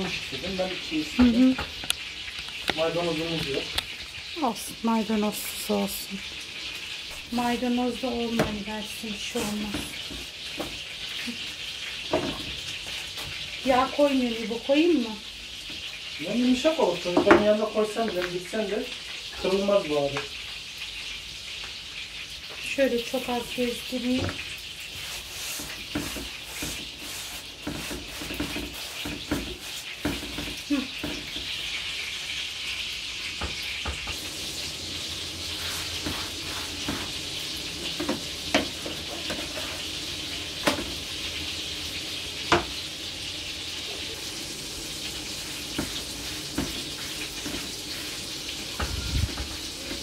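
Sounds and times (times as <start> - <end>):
dough sizzling in a pan: 0.0 - 50.0.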